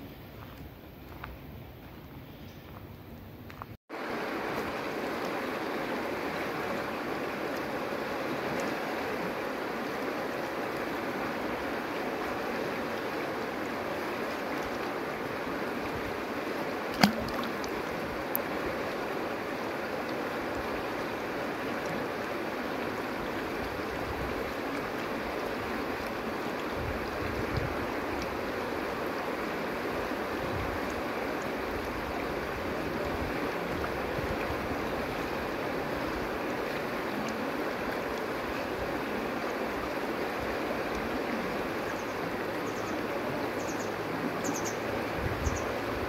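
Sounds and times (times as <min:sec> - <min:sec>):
river water rushing over stones: 0:03.9 - 0:46.0.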